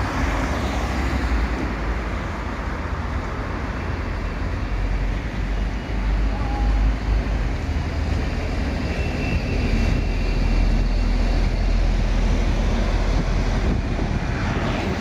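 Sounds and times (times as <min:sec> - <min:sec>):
bus driving past: 0:00.0 - 0:15.0
street traffic: 0:00.0 - 0:15.0.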